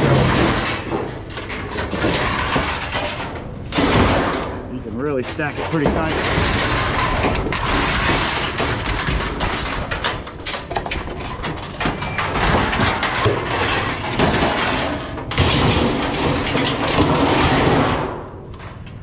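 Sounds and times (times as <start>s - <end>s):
sheet metal clanking and scraping: 0.0s - 19.0s.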